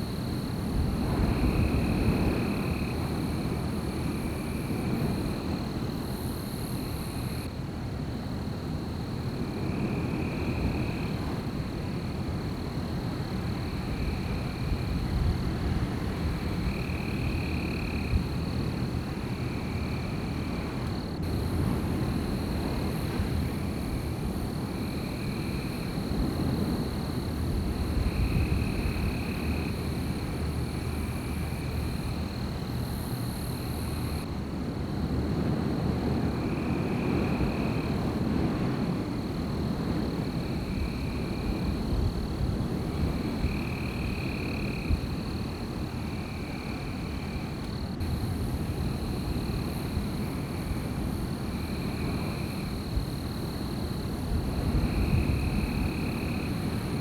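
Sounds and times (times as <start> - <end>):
wind blowing through forest: 0.0 - 57.0.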